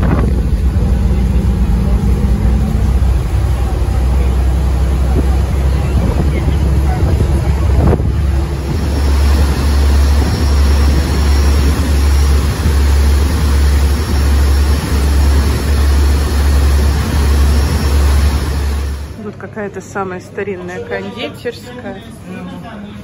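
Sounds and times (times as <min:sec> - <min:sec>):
boat engine drone: 0:00.0 - 0:19.2
churning wake water: 0:00.0 - 0:19.2.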